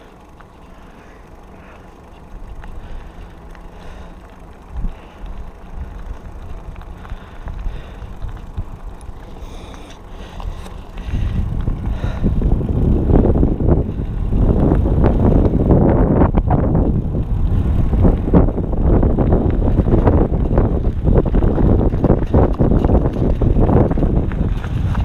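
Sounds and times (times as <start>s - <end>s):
bike rattles and clicks: 0.0s - 25.0s
bike tyre rumble on dirt: 0.0s - 25.0s
wind on microphone: 4.7s - 25.0s.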